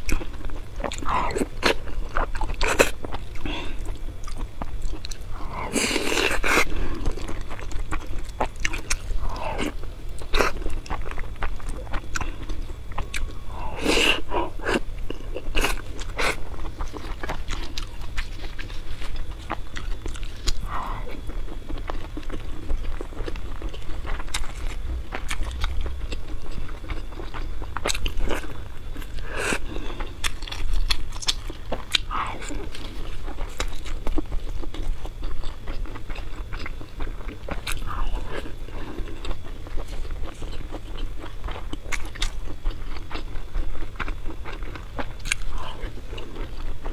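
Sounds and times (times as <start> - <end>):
person chewing: 0.0 - 46.9.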